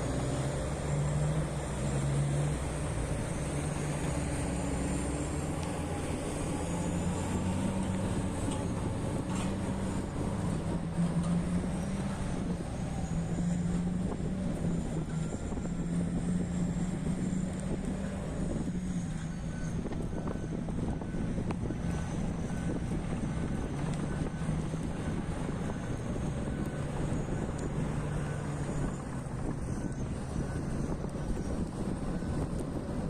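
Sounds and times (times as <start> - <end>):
diesel engine of heavy machinery: 0.0 - 33.0.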